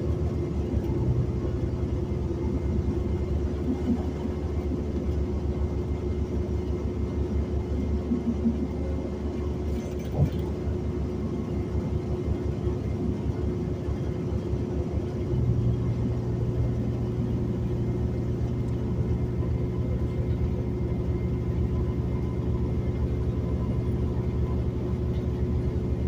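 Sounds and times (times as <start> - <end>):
bus engine and road rumble: 0.0 - 26.0
constant low hum: 0.0 - 26.0
deep engine drone: 0.0 - 26.0.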